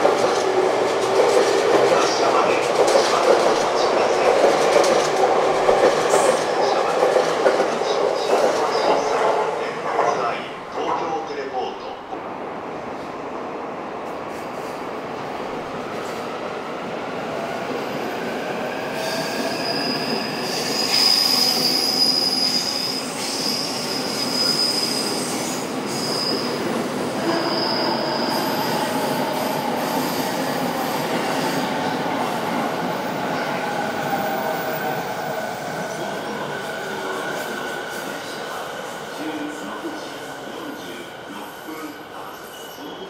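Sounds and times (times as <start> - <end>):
electric train rumbling: 0.0 - 42.9.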